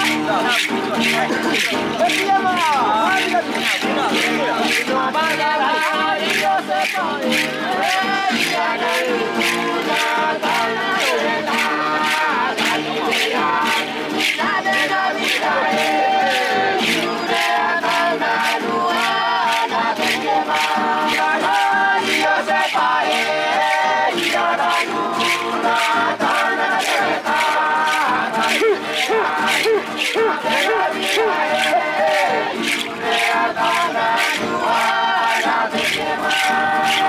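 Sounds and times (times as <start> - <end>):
group chanting and singing: 0.0 - 37.0.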